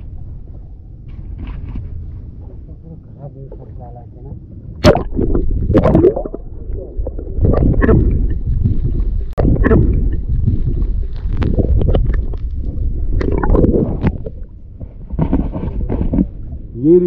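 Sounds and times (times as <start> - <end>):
muffled underwater rumbling: 0.0 - 17.0.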